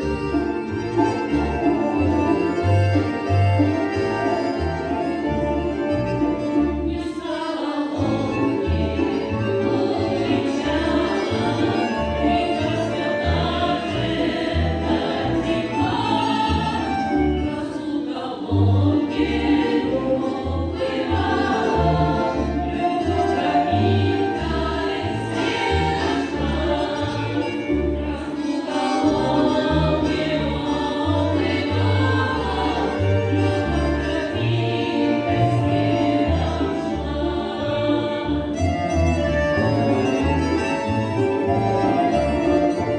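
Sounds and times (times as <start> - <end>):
accordion playing bass and chords: 0.0 - 42.9
women's choir singing in harmony: 0.0 - 42.9.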